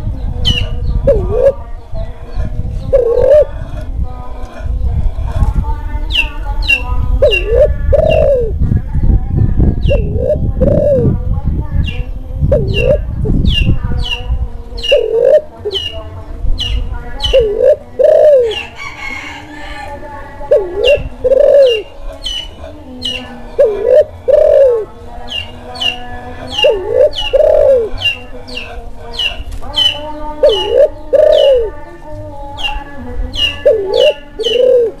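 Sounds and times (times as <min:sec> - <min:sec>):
dove cooing: 0:00.0 - 0:05.3, 0:06.2 - 0:08.6, 0:09.8 - 0:11.2, 0:12.0 - 0:32.0, 0:32.6 - 0:35.0.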